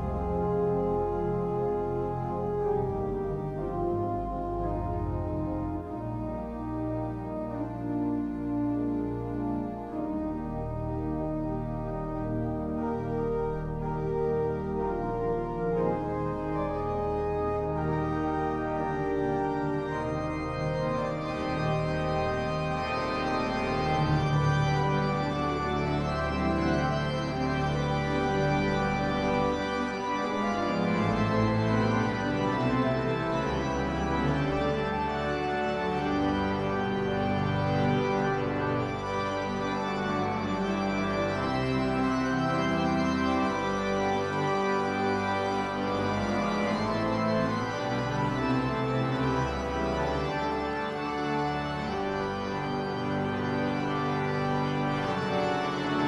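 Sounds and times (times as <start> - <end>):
church pipe organ playing: 0.0 - 56.0.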